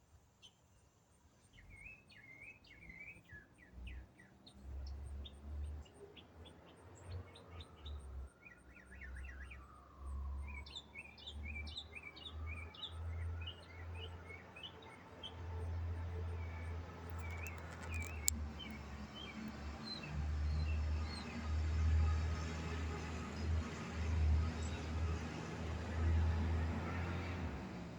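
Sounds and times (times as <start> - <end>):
songbird singing: 0.4 - 27.6.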